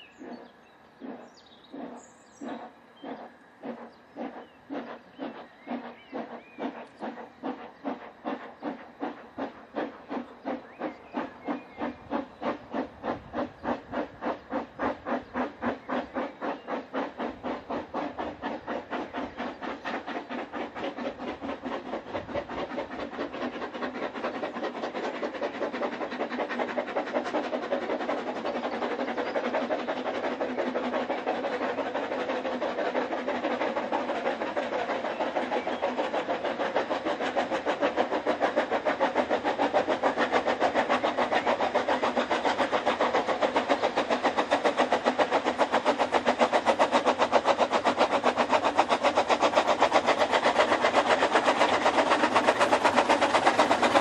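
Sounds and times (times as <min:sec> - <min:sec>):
steam locomotive chuffing: 0:00.0 - 0:54.0.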